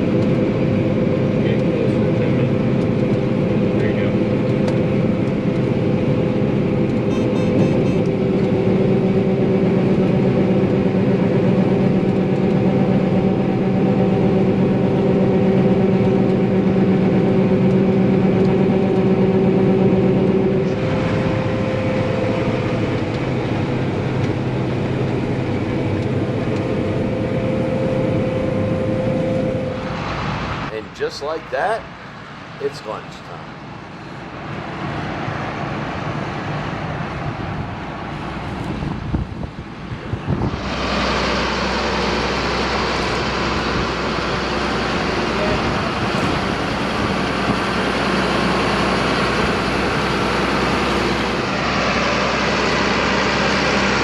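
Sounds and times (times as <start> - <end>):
harvest machinery diesel drone: 0.0 - 54.0.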